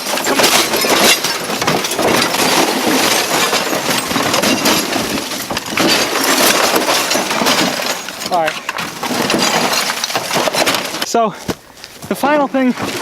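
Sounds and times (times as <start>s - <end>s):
plastic and glass cracking: 0.0s - 11.6s.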